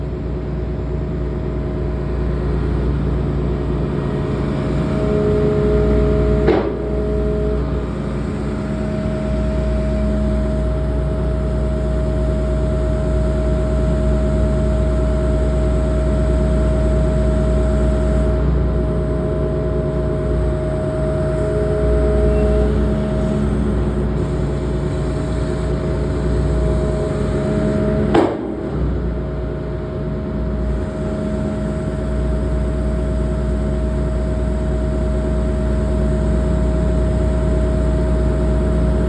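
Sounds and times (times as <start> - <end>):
excavator diesel engine running: 0.0 - 39.0
steady whine: 0.0 - 39.0.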